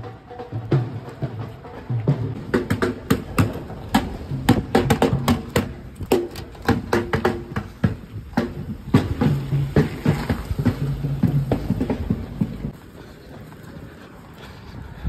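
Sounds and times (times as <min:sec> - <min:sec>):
drums being beaten: 0:00.0 - 0:12.8.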